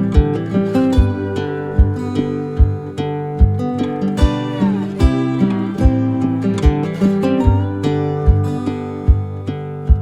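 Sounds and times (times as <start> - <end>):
acoustic guitar over a beat: 0.0 - 10.0.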